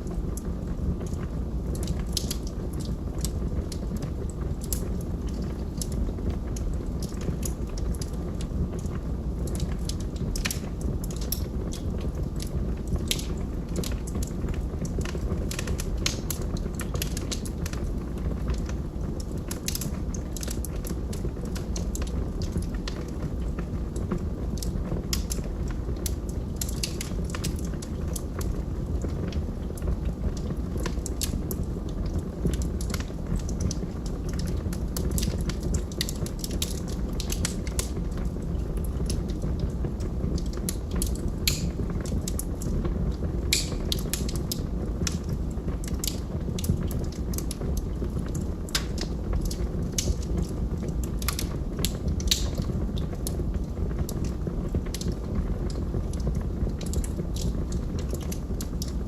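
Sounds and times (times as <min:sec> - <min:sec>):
burning wood crackling and popping: 0:00.0 - 0:59.0
low rumble of flames: 0:00.0 - 0:59.0.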